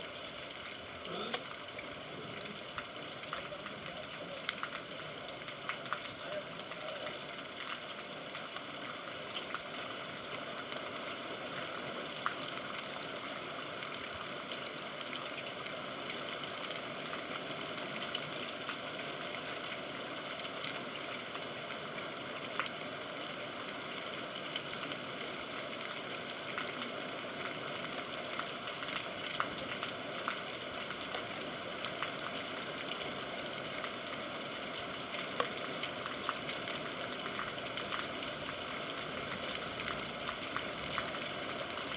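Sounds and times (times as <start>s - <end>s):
sharp ticks of raindrops: 0.0s - 41.9s
steady rain hiss: 0.0s - 41.9s.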